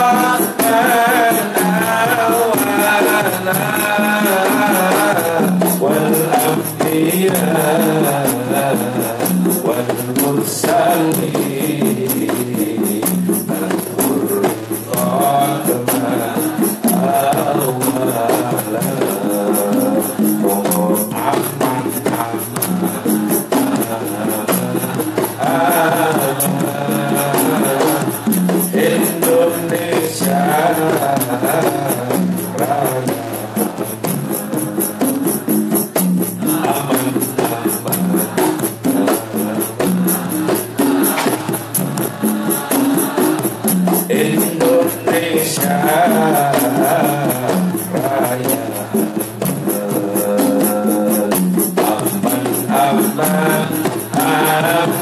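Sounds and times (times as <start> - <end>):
frame drums: 0.0 - 55.0
men singing in unison: 0.0 - 55.0.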